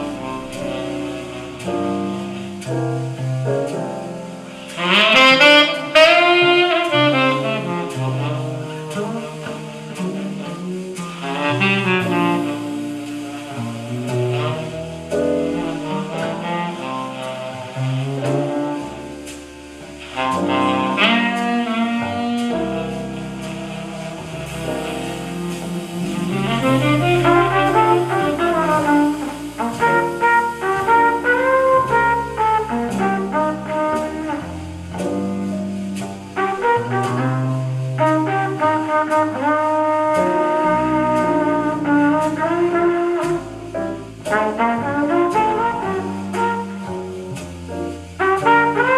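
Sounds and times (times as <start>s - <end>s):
double bass: 0.0s - 48.9s
drums with cymbal beat: 0.0s - 48.9s
small group jazz: 0.0s - 48.9s
trumpet: 0.0s - 48.9s
tenor saxophone: 4.7s - 19.2s, 20.0s - 34.9s, 36.4s - 47.2s.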